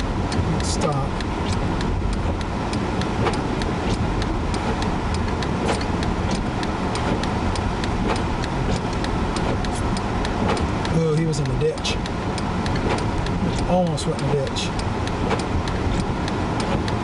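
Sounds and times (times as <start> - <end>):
sharp ticks: 0.0 - 17.0
vehicle road and wind rumble: 0.0 - 17.0.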